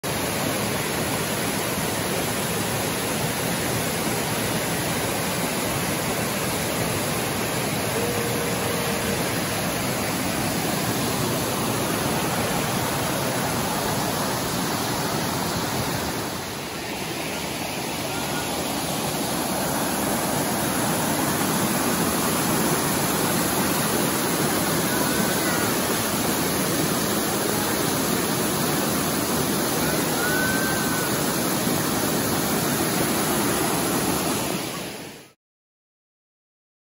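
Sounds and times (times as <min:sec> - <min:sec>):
water rushing down waterfall: 0:00.0 - 0:35.4.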